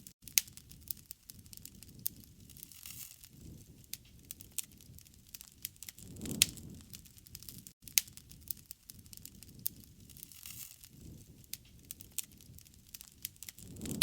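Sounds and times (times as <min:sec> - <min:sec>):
wood fire crackling and popping: 0:00.0 - 0:14.0
low rumble of flames: 0:00.2 - 0:14.0.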